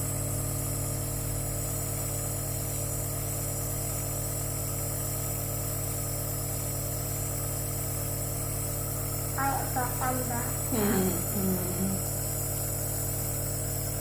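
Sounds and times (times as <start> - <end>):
nebulizer compressor humming: 0.0 - 14.0.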